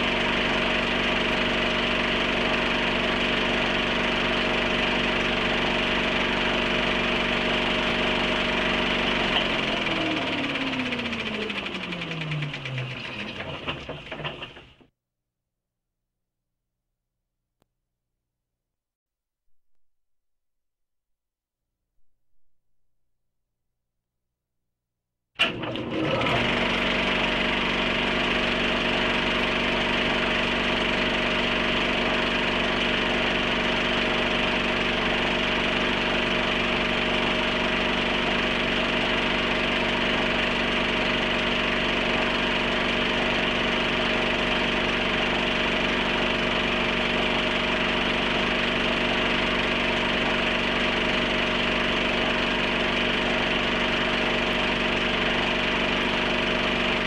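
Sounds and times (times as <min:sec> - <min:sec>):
film projector whirring: 0:00.0 - 0:14.8, 0:25.4 - 0:57.0.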